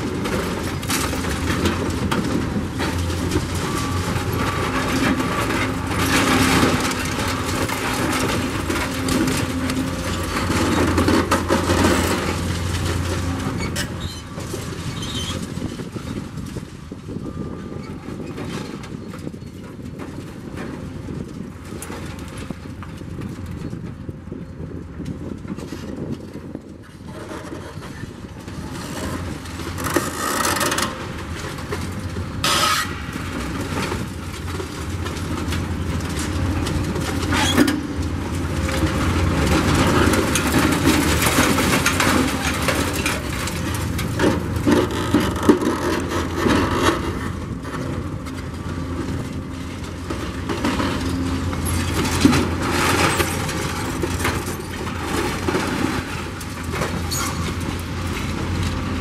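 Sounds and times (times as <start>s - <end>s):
diesel engine running: 0.0s - 25.4s, 27.4s - 59.0s
concrete rubble scraping and clatter: 0.0s - 59.0s.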